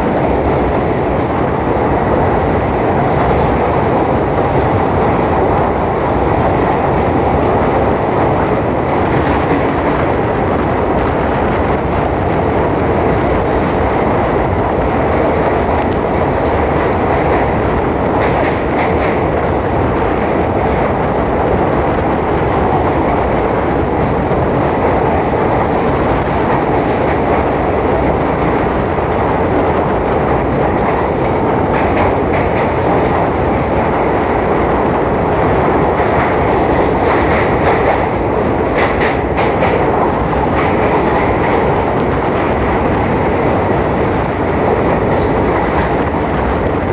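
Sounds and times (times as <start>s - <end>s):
train carriage rumble: 0.0s - 46.9s
wheel clatter on rails: 0.0s - 46.9s.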